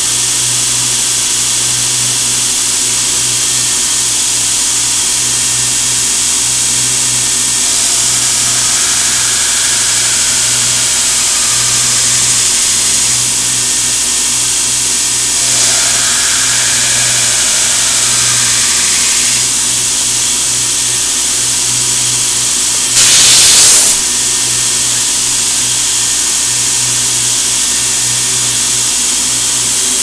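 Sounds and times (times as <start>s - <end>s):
steel grinding on belt: 0.0s - 30.0s
motor hum: 2.3s - 30.0s.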